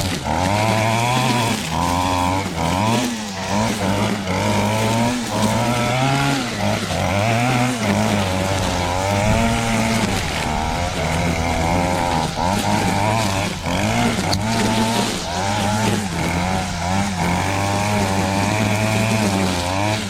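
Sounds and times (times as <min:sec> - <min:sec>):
string trimmer engine running: 0:00.0 - 0:20.0.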